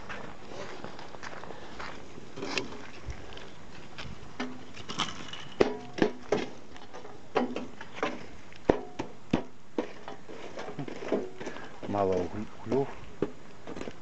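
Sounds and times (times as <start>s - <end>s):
flip-flop footsteps on dirt path: 0.0s - 14.0s.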